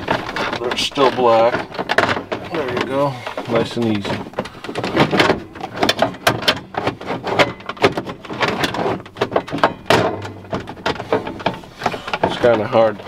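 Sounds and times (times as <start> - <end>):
plastic trim clicking and rattling: 0.0 - 13.0.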